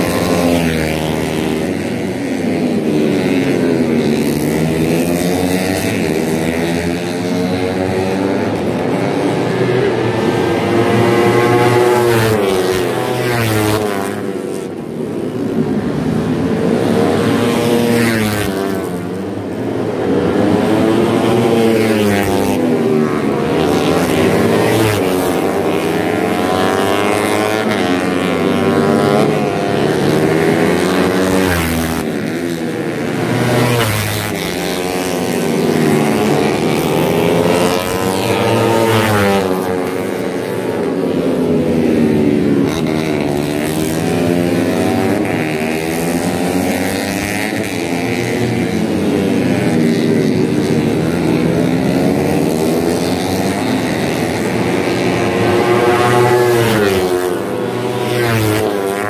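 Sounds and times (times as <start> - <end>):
motorcycles revving high: 0.0 - 59.0.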